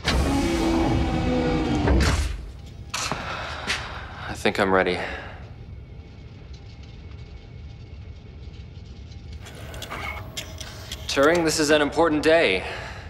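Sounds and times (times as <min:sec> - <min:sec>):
low ambient drone: 0:00.0 - 0:13.0.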